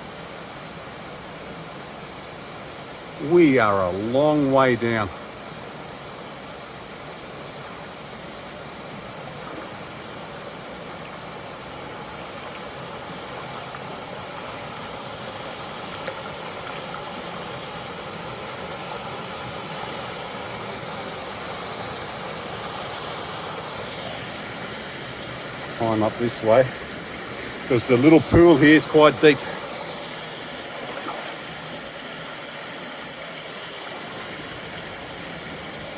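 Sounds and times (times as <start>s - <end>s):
creek water rushing: 0.0s - 35.9s.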